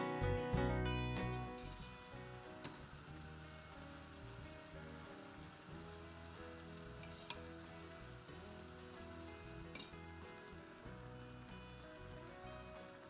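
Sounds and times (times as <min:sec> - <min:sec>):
soft background music: 0:00.0 - 0:13.0
meatballs sizzling in a pan: 0:00.5 - 0:13.0.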